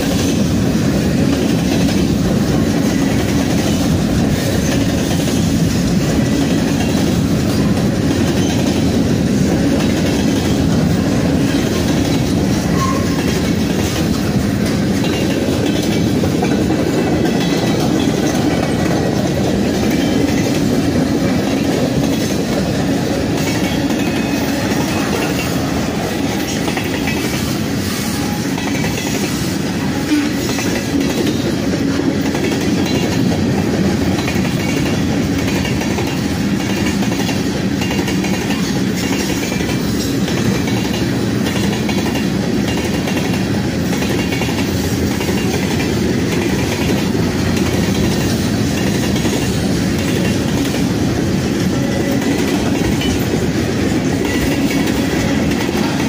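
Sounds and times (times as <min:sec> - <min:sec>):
steel wheels on rail: 0:00.0 - 0:56.0.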